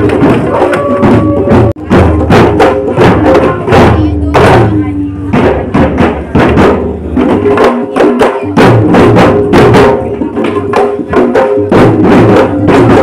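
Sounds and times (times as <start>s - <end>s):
group drumming fast rhythm: 0.0s - 13.0s.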